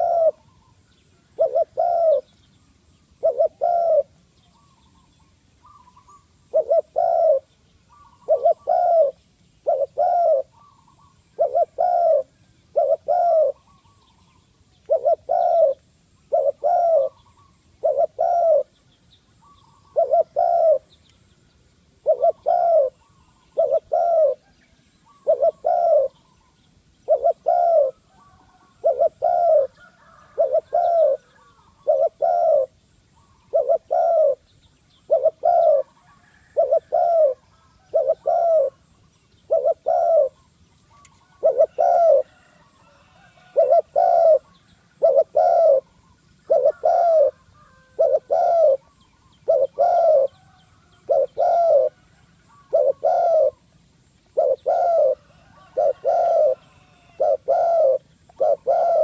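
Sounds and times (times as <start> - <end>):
dove cooing: 0.0 - 2.4, 3.2 - 14.2, 14.8 - 18.7, 19.4 - 20.9, 22.0 - 53.7, 54.3 - 59.0.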